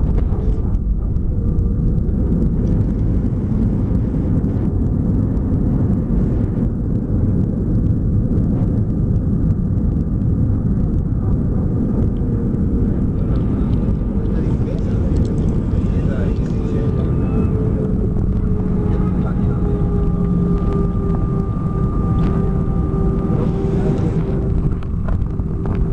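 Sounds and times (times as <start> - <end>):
airliner low rumble: 0.0 - 25.9
faint steady hum: 0.0 - 25.9.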